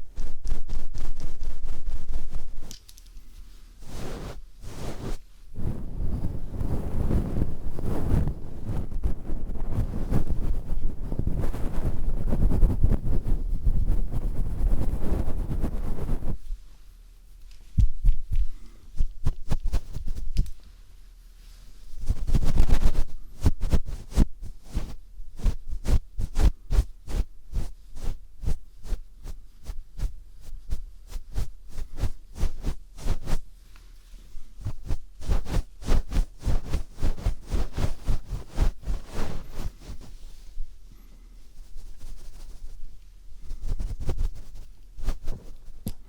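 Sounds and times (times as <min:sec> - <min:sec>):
rustling scrape: 0:00.0 - 0:45.8.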